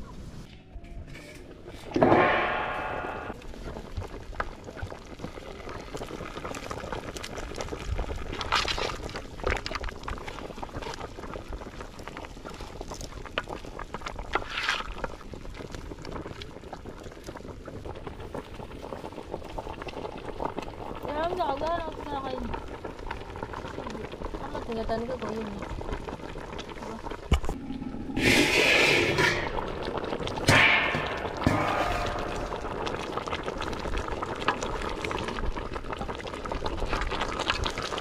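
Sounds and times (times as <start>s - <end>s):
stew bubbling in a pot: 3.2s - 38.0s.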